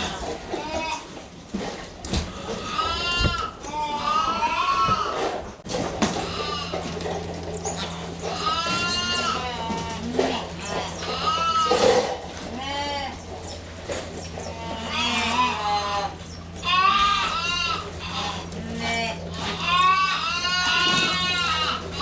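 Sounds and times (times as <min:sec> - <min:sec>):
calves bawling: 0:00.0 - 0:22.0
steady low hum: 0:00.0 - 0:22.0.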